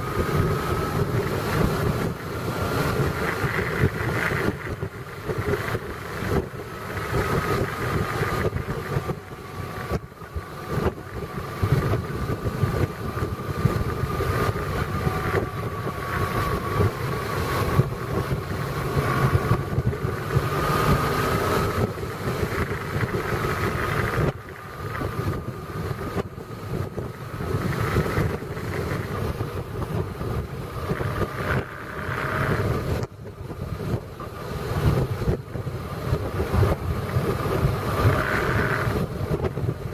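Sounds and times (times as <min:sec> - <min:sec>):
vehicle engine and road noise: 0:00.0 - 0:39.9
wind gusting on microphone: 0:00.0 - 0:39.9.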